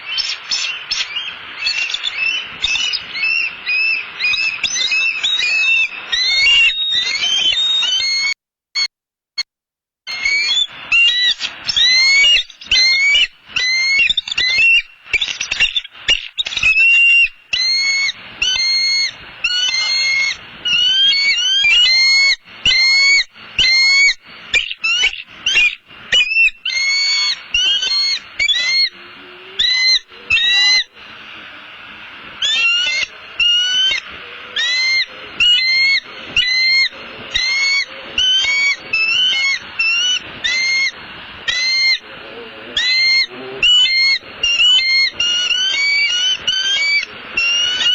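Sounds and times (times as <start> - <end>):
eagles chattering calls: 0.0 - 8.3, 10.1 - 47.9.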